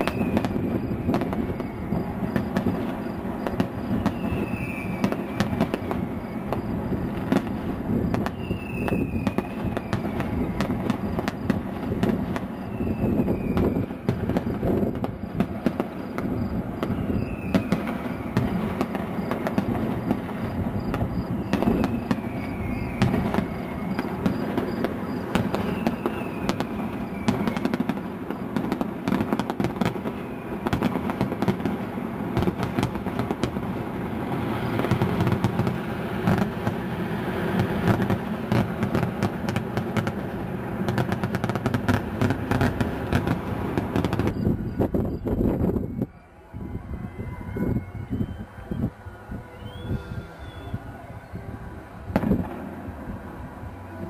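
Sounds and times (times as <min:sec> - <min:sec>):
fireworks bursting: 0:00.0 - 0:54.0
fireworks falling whistles: 0:00.0 - 0:54.0.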